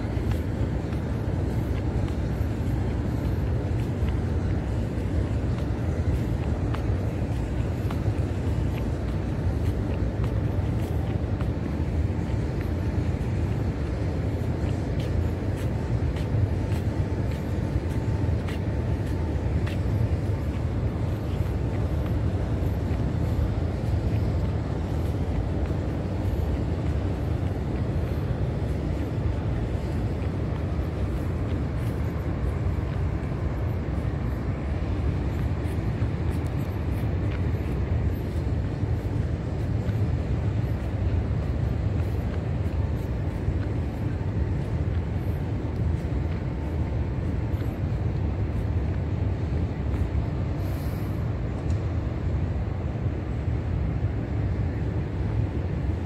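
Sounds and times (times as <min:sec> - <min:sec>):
wind rumble: 0:00.0 - 0:56.0.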